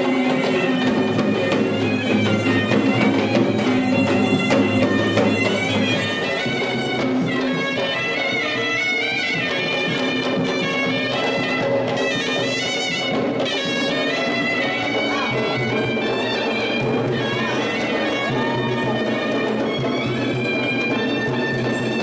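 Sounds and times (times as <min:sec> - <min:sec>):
rapid drum strokes: 0:00.0 - 0:22.0
shrill reed pipe melody: 0:00.0 - 0:22.0.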